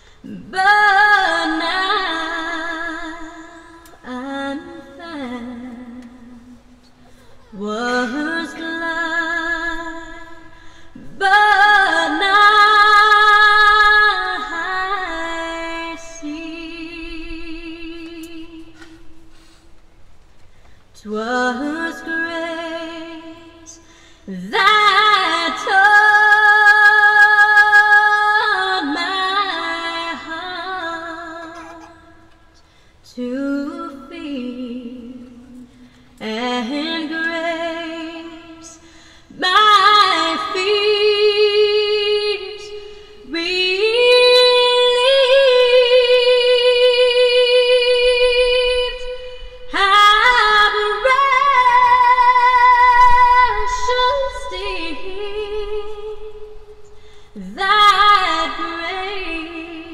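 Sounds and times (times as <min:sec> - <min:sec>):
woman singing a hymn: 0:00.0 - 0:19.4, 0:21.0 - 0:59.9.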